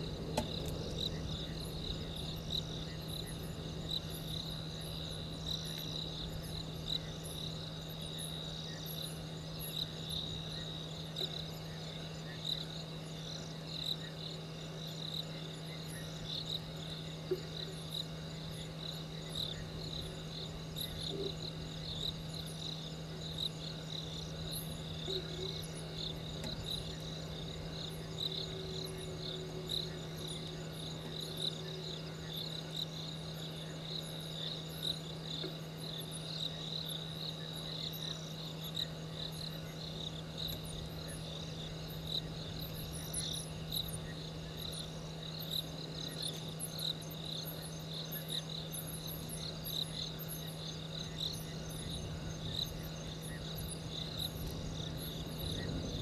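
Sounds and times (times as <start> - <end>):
crickets chirping: 0.0 - 56.0
steady low hum: 0.0 - 56.0.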